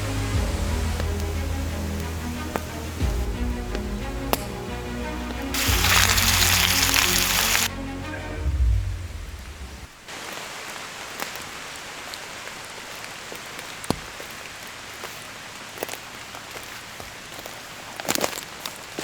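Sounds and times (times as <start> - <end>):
raindrops ticking close by: 0.0 - 7.7, 10.0 - 19.0
rain falling in forest: 0.0 - 19.0.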